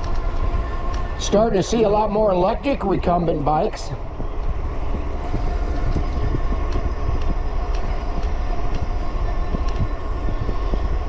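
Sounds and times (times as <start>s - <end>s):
faint steady whine: 0.0s - 11.0s
wind buffeting microphone: 0.0s - 11.0s.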